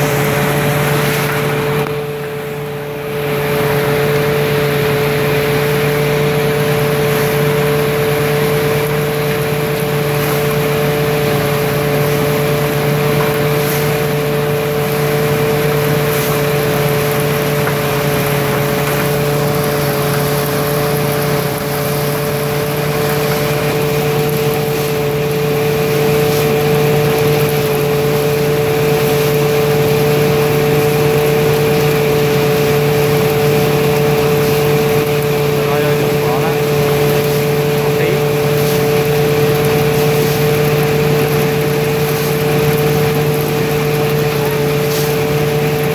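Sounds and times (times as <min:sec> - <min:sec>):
threshing machine humming: 0:00.0 - 0:45.9.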